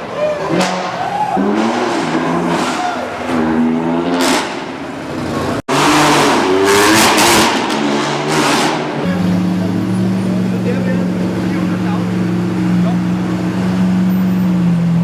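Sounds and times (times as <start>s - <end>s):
supercar engine revving: 0.4s - 15.0s.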